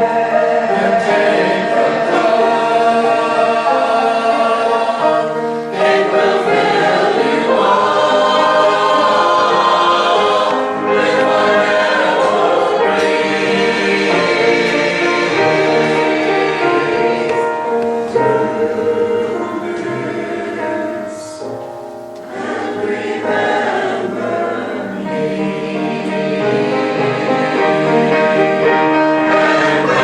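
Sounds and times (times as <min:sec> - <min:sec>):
choir singing sacred music: 0:00.0 - 0:30.0
instrumental accompaniment: 0:00.0 - 0:30.0.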